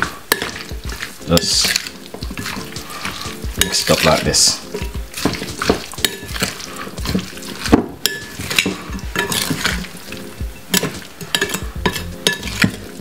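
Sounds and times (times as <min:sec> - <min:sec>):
wet sticky mixing: 0:00.0 - 0:13.0.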